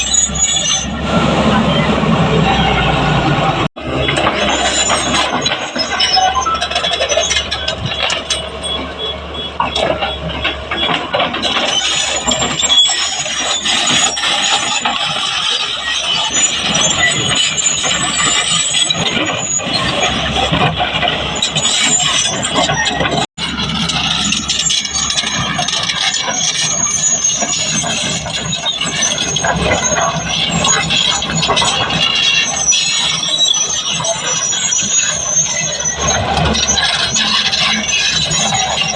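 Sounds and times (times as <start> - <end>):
excavator engine under load: 0.0 - 38.9
high machinery squeals: 0.0 - 38.9.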